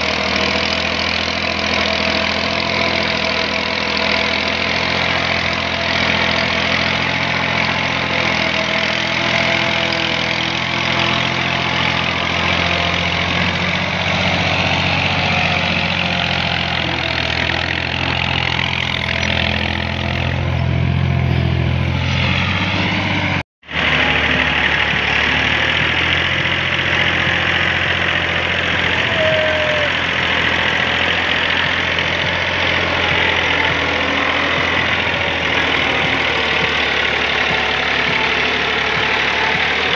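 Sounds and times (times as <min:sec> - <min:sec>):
second tractor engine under load: 0:00.0 - 0:39.9
tractor engine under heavy load: 0:00.0 - 0:39.9.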